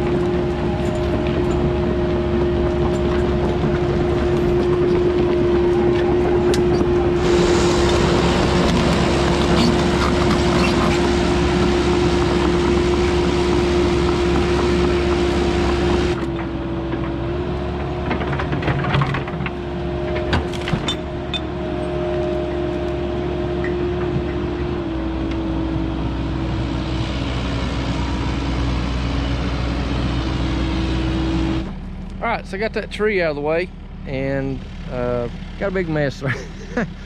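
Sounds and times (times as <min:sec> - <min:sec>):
excavator hydraulic whine: 0:00.0 - 0:32.2
diesel engine running: 0:00.0 - 0:37.0.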